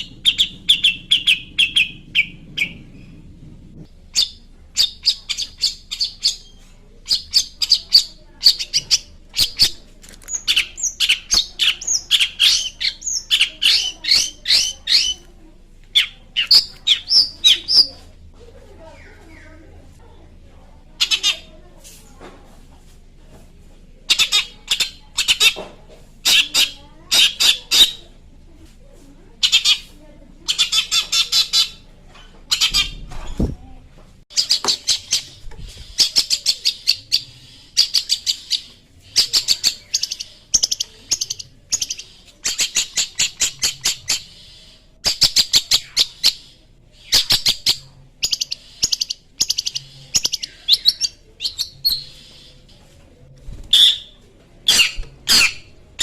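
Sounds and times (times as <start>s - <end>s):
bird harsh chattering song: 0.0s - 3.2s, 4.1s - 15.3s, 15.9s - 18.1s, 21.0s - 21.6s, 24.1s - 25.6s, 26.2s - 28.2s, 29.4s - 33.6s, 34.3s - 56.0s.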